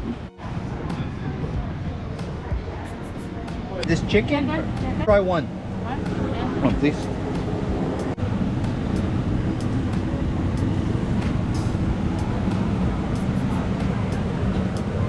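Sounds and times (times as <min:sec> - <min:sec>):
busy street market din: 0:00.0 - 0:15.0.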